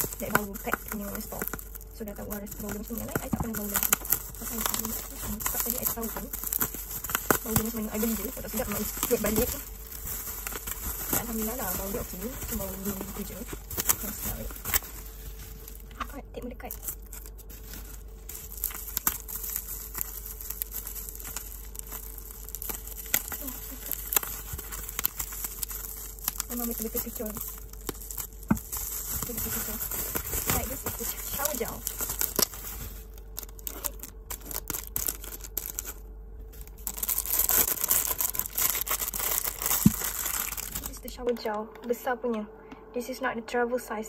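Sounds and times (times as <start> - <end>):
bubble wrap crinkling: 0.0 - 41.5.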